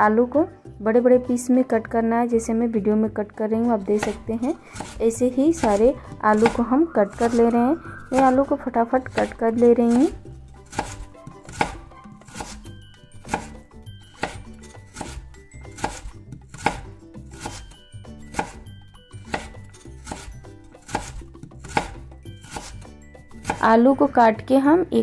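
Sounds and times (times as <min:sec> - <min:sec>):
knife chopping potatoes on board: 0:03.7 - 0:23.8.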